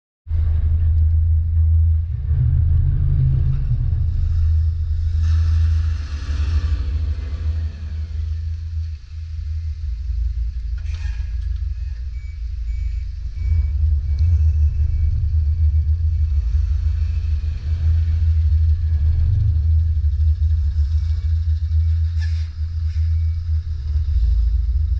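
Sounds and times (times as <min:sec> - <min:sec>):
truck diesel engine rumbling: 0:00.3 - 0:24.9.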